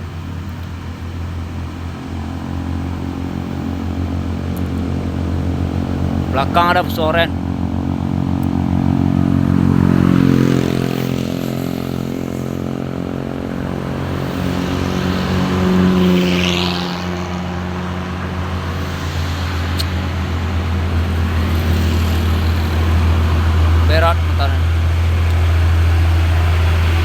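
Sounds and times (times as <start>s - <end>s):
truck diesel engine pulling uphill: 0.0s - 27.0s.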